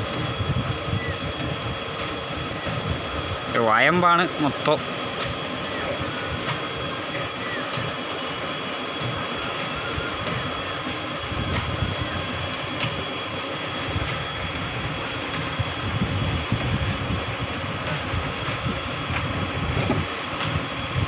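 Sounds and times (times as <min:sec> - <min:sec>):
boat motor rumbling: 0:00.0 - 0:21.0
faint steady whine: 0:00.0 - 0:21.0.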